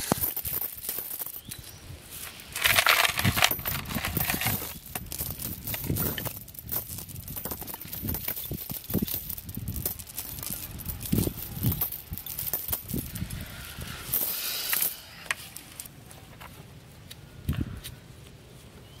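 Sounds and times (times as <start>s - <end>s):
steel chain rattling and clinking: 0.0s - 15.9s.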